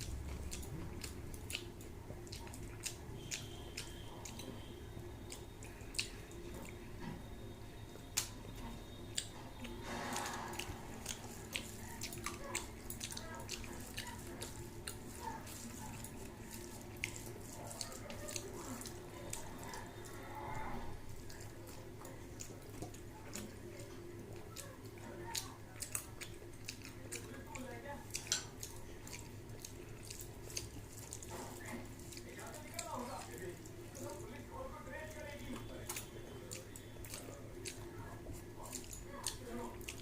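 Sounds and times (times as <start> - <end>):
wet chewing sounds: 0.0 - 40.0.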